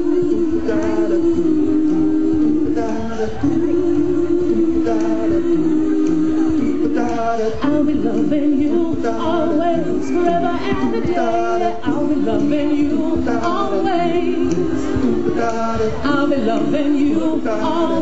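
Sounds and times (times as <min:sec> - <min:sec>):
a cappella choir singing: 0:00.0 - 0:18.0.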